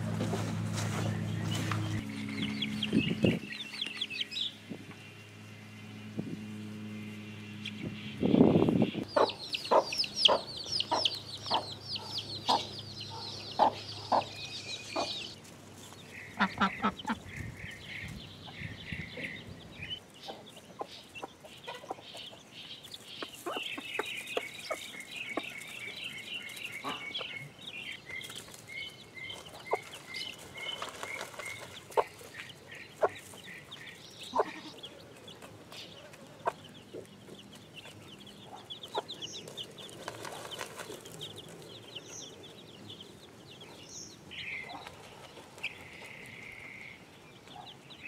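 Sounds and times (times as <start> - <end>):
chicks cheeping: 0.1 - 48.0.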